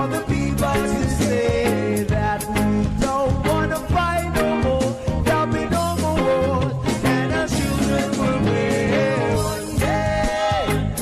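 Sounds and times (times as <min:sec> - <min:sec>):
music with drum beat and melody: 0:00.0 - 0:11.0.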